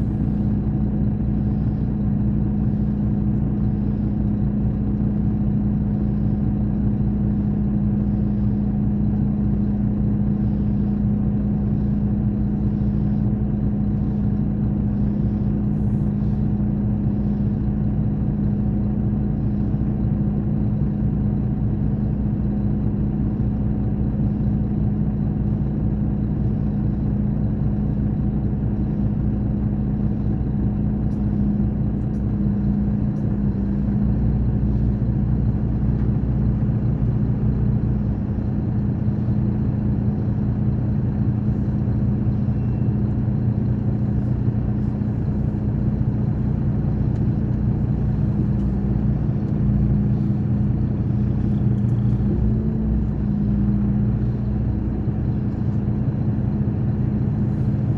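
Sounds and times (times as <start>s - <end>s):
coach diesel engine droning: 0.0s - 57.9s.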